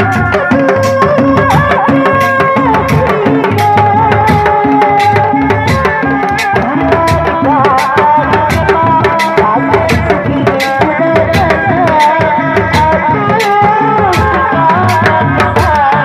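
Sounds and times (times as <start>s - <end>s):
drums playing fast rhythms: 0.0s - 16.0s.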